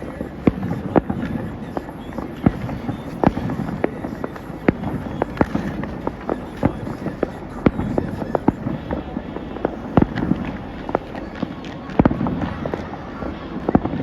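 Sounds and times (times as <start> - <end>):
distant fireworks bangs: 0.0 - 14.0.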